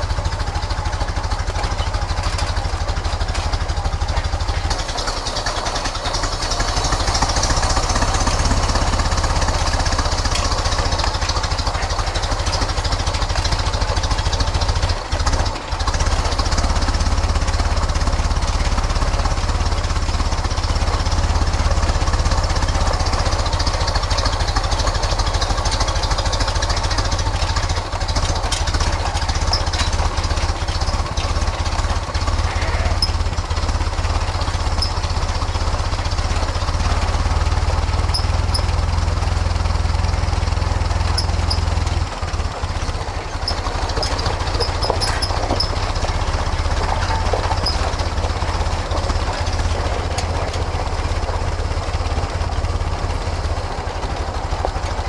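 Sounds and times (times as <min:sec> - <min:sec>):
car engine low rumble: 0:00.0 - 0:55.0.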